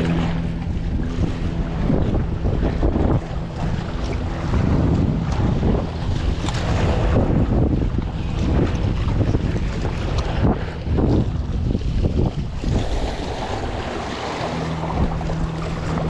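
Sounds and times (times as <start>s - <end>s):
waves washing against rocks: 0.0s - 16.0s
wind buffeting microphone: 0.0s - 16.0s.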